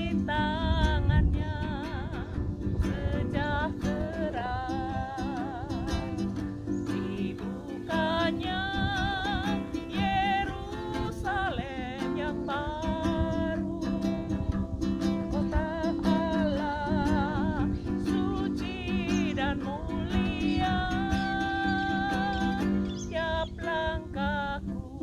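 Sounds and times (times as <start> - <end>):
ukulele strummed in chords: 0.0 - 25.0
woman singing with vibrato: 0.0 - 25.0.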